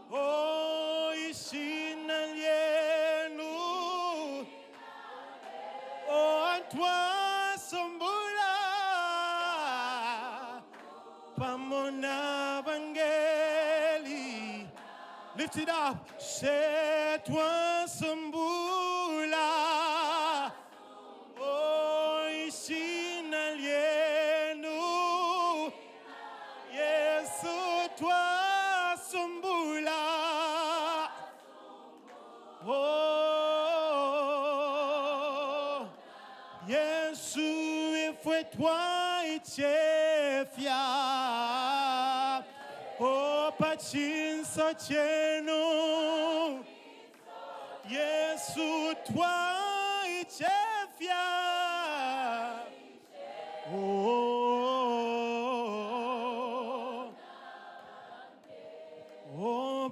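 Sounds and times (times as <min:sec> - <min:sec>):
worship singing with vibrato: 0:00.0 - 0:59.9.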